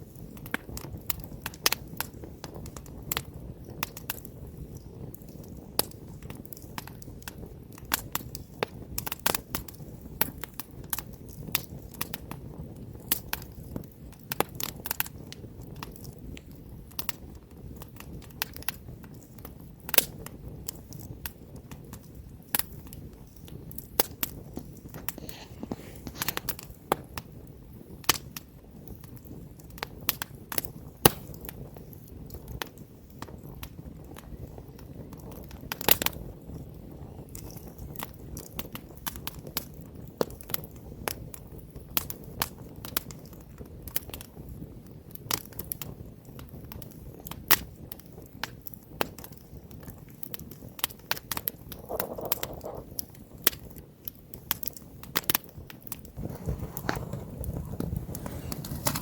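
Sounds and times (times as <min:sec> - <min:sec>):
campfire crackling and popping: 0:00.0 - 0:59.0
low rumble of flame: 0:00.0 - 0:59.0.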